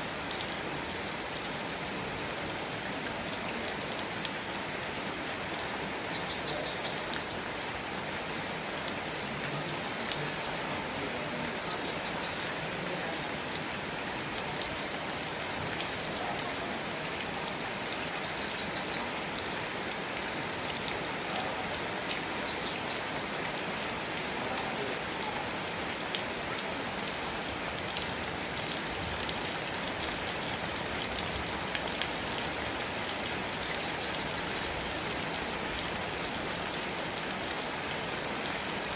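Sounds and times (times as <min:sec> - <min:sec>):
raindrops ticking: 0:00.0 - 0:38.9
steady rain falling: 0:00.0 - 0:38.9.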